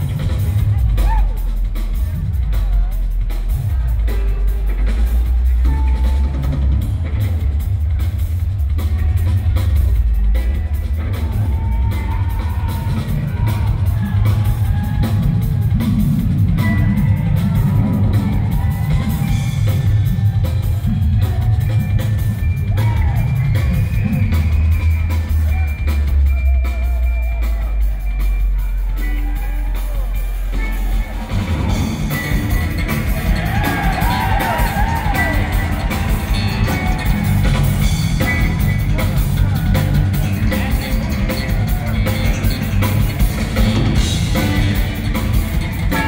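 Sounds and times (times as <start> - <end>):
rock drum kit: 0.0 - 46.0.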